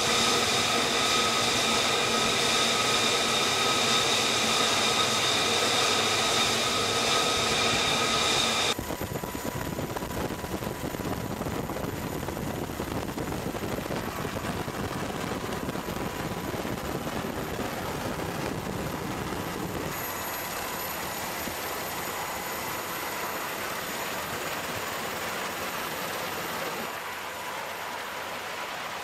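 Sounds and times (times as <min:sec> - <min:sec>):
jet engine whine: 0:00.0 - 0:29.0
rushing noise of aircraft and wind: 0:00.0 - 0:29.0.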